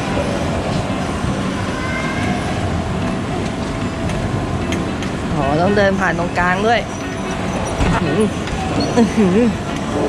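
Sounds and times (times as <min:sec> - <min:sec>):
rumbling background noise: 0:00.0 - 0:10.0.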